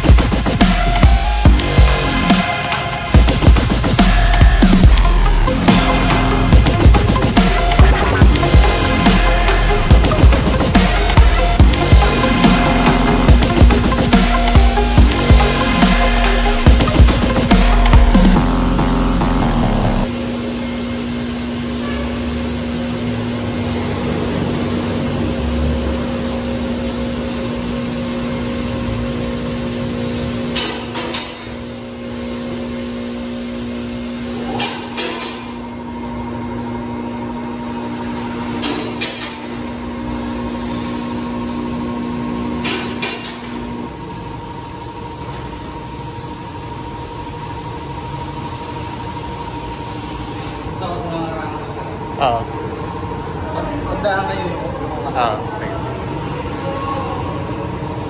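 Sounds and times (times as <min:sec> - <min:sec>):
hydraulic power unit humming: 0:00.0 - 0:58.0.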